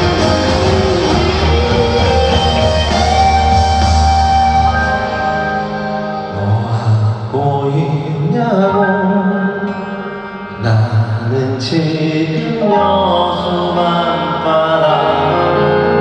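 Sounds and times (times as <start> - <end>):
live band playing pop song: 0.0 - 16.0.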